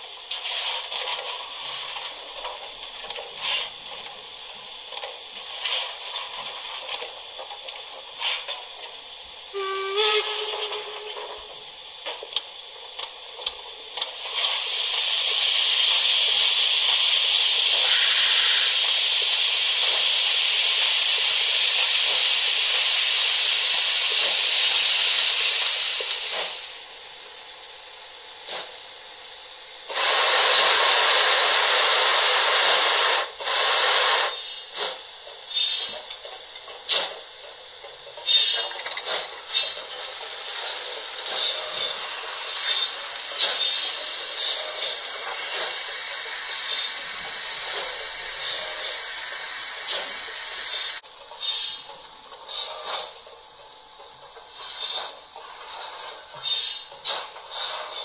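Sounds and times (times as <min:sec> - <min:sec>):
thin steam hiss from small speaker: 0:00.0 - 0:58.0.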